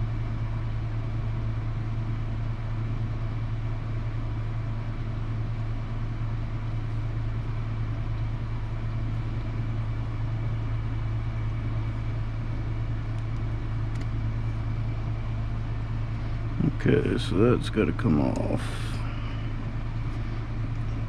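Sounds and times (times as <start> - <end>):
low machine hum with hiss: 0.0 - 21.0.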